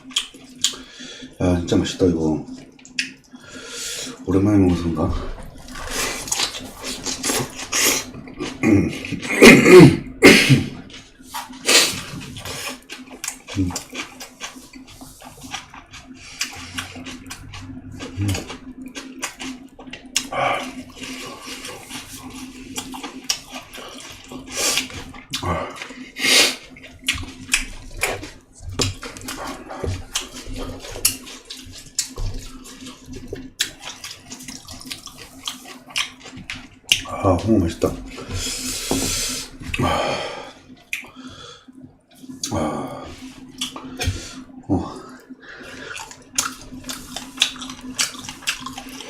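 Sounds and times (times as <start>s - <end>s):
wet chewing and lip-smacking: 0.0s - 0.9s, 2.5s - 3.4s, 5.4s - 9.3s, 10.7s - 39.8s, 40.7s - 42.6s, 43.2s - 49.0s
steady low hum: 0.0s - 49.0s.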